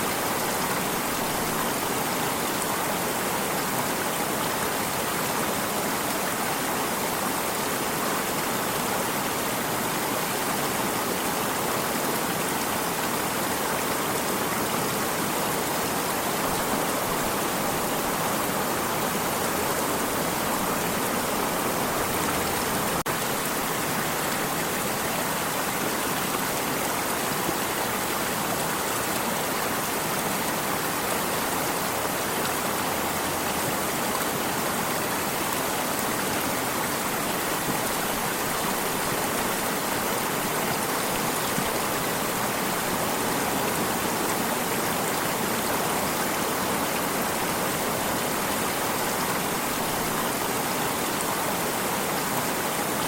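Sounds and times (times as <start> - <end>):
water stream flowing: 0.0 - 53.0.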